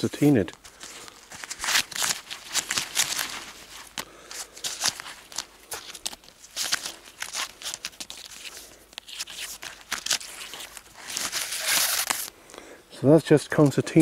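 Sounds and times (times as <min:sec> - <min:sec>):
fabric and cord rustling: 0:00.0 - 0:12.4.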